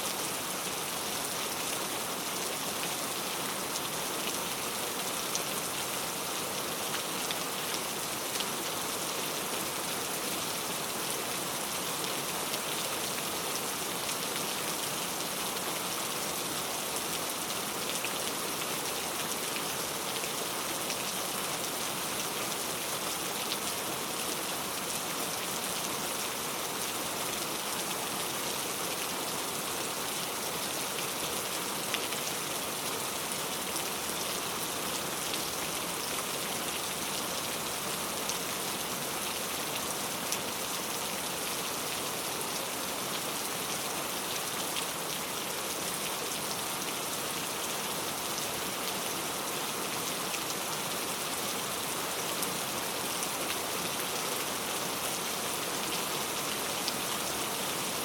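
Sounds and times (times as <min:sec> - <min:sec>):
rain pattering on a surface: 0:00.1 - 0:58.0.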